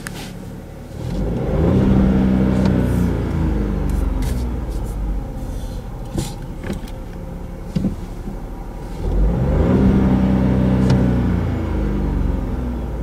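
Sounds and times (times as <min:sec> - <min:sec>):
car engine revving: 0:00.8 - 0:13.0.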